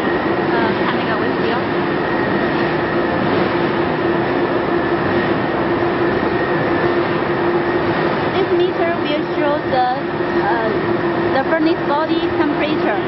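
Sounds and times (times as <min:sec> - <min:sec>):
furnace machine hum: 0:00.0 - 0:13.0.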